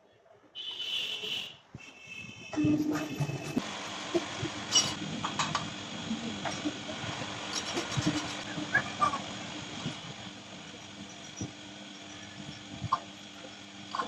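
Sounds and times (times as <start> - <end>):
metal lathe humming: 2.6 - 14.0.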